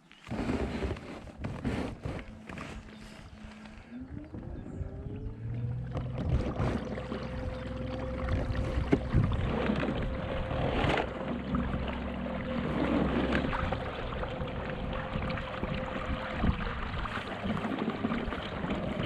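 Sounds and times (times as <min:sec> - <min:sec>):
water splashing along hull: 0:00.2 - 0:19.0
electric outboard motor whine: 0:01.4 - 0:19.0.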